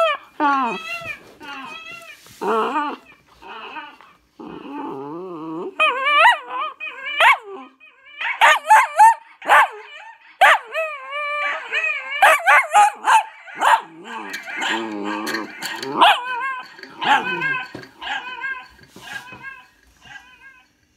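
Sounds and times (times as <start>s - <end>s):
dog howling and yelping: 0.0s - 20.9s.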